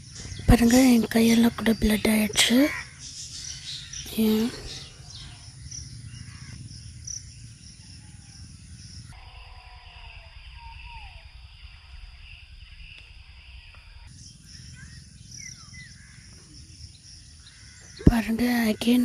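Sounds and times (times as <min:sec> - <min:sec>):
faint bird chirps: 0:00.0 - 0:19.0
insects chirring: 0:00.0 - 0:19.0.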